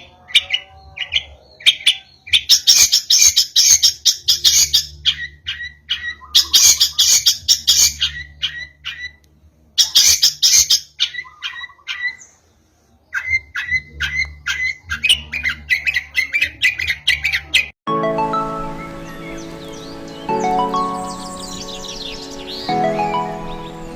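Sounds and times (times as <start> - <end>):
bird singing harsh chattering: 0.0 - 9.2, 9.8 - 12.4, 13.1 - 17.8, 19.0 - 23.9.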